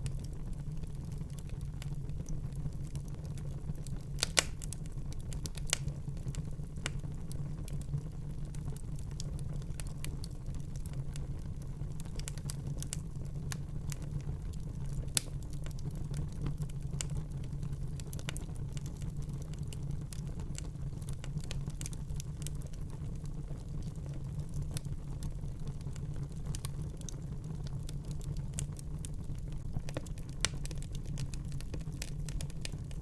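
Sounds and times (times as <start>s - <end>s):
fire crackling and popping: 0.0s - 33.0s
fire flames rumbling: 0.0s - 33.0s.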